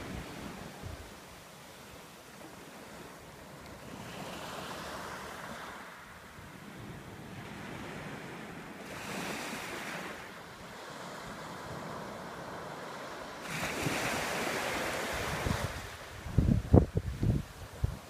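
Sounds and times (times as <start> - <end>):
small waves washing onto beach: 0.0 - 18.0.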